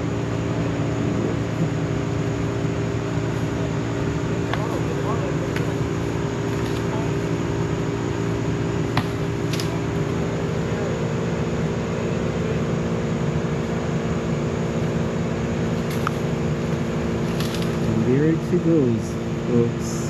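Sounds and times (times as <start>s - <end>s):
heavy machinery engine drone: 0.0s - 20.0s.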